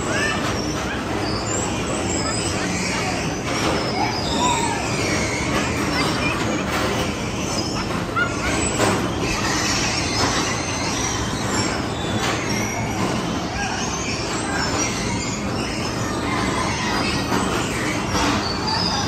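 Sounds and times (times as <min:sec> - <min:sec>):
bumper cars rumbling: 0:00.0 - 0:19.0
short high squeaks: 0:00.0 - 0:19.0.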